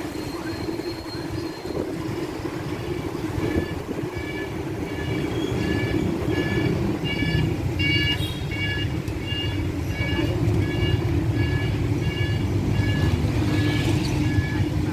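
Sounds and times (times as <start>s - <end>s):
street traffic: 0.0s - 14.9s
motorbike engine: 2.0s - 14.9s.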